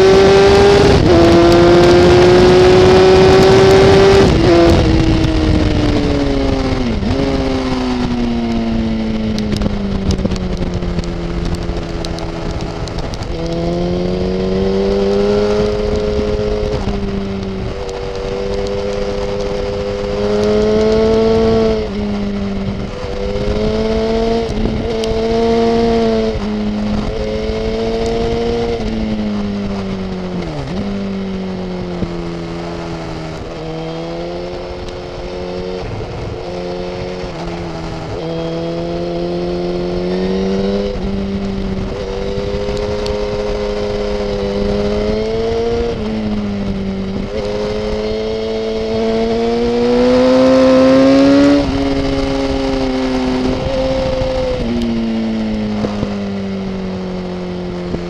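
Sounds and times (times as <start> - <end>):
motorcycle engine revving: 0.0 - 58.0
wind rushing: 0.0 - 58.0.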